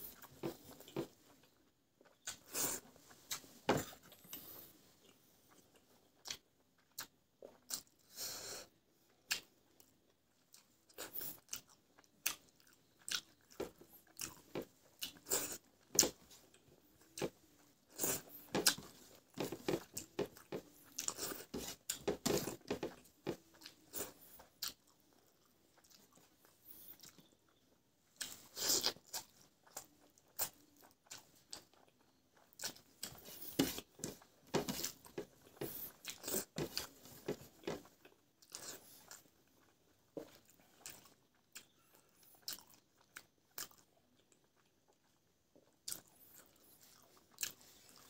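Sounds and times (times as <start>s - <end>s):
wet chewing: 9.3s - 48.0s.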